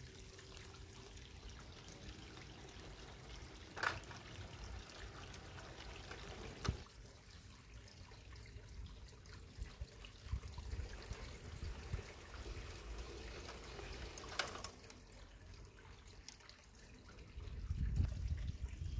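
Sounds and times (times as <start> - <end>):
faint water trickling: 0.0 - 18.9.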